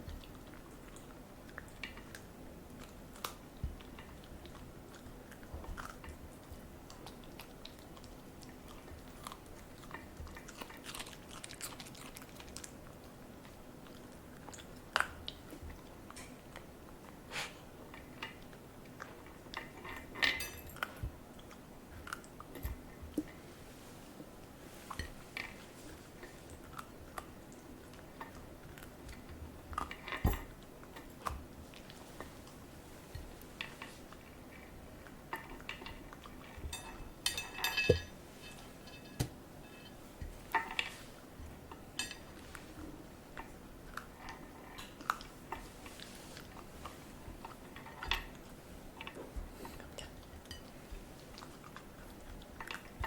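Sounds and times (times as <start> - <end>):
dog chewing with wet crunches: 0.0 - 37.4, 38.0 - 53.0.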